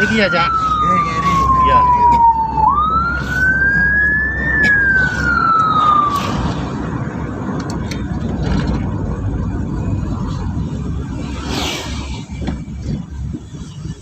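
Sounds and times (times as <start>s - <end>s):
ambulance siren wail: 0.0s - 11.4s
vehicle rumble: 0.0s - 14.0s.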